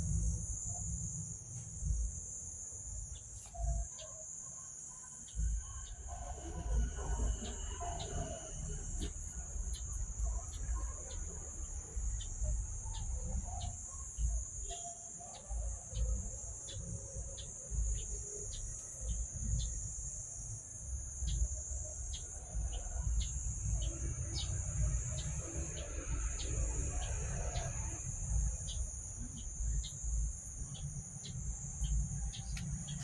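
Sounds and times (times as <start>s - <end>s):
insect chirps: 0.0s - 33.0s
insects droning: 0.0s - 33.0s.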